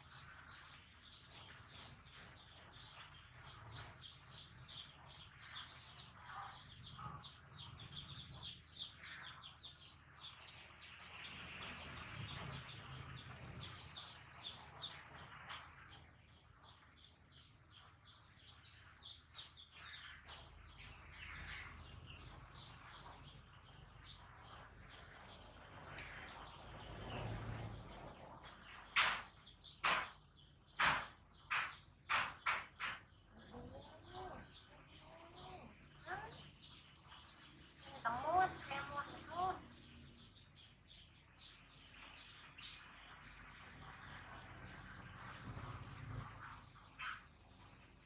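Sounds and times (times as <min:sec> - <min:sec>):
small bird chirping: 0:00.0 - 0:48.0.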